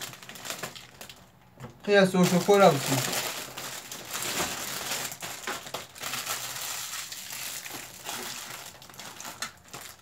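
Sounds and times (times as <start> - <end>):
snack packaging crinkling: 0.0 - 1.3, 1.9 - 10.0.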